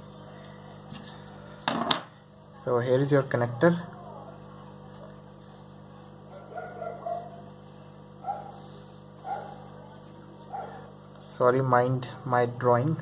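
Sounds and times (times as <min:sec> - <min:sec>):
steady low electrical hum: 0:00.0 - 0:13.0.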